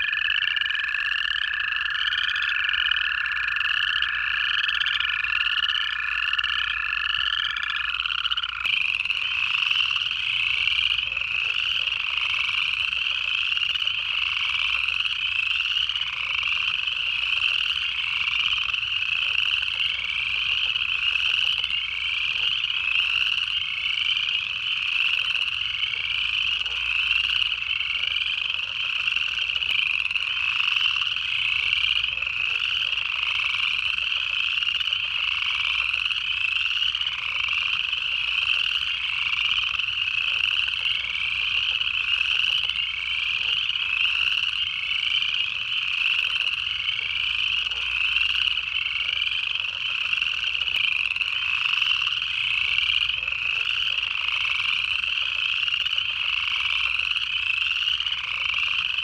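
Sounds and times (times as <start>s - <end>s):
chorus frogs trilling: 0.0s - 59.0s.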